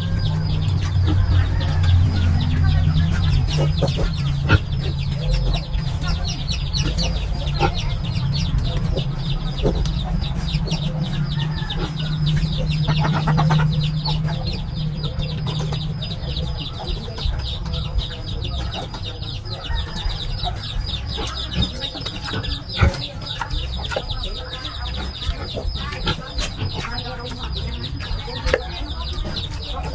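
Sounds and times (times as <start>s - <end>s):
chickens clucking: 0.0s - 29.9s
steady low hum: 0.0s - 29.9s.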